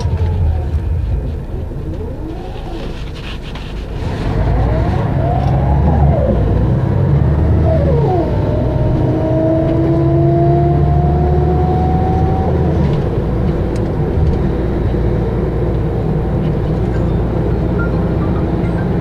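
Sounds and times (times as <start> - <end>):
bus diesel engine running: 0.0 - 10.0, 10.8 - 19.0.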